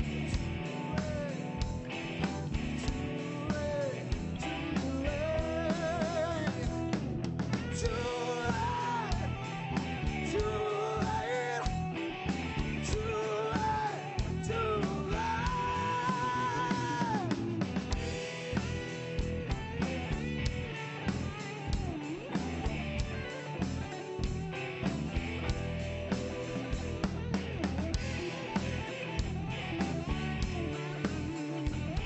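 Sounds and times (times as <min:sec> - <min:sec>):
rock band playing instrumental: 0:00.0 - 0:32.0
wavering lead guitar melody: 0:00.0 - 0:32.0.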